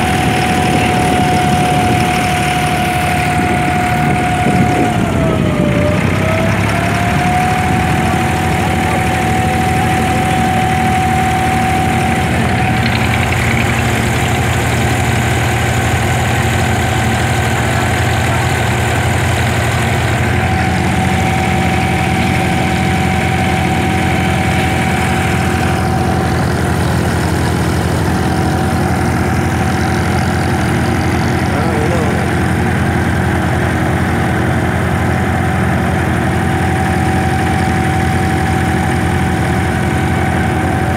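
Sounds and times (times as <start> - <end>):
boat diesel engine running: 0.0 - 40.9.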